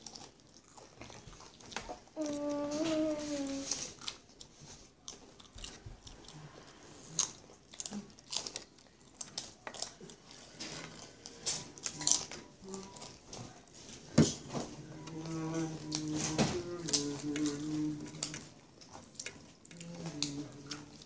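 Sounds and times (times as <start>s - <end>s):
children crunching chips: 0.0s - 21.0s.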